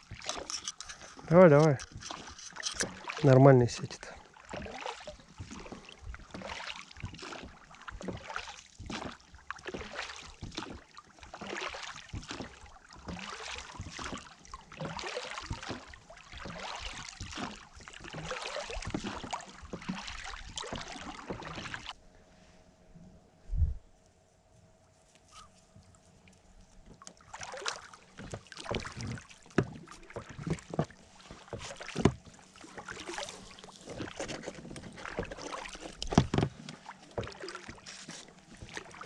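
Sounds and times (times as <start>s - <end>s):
water splashing and dripping: 0.0s - 22.0s, 26.8s - 39.0s.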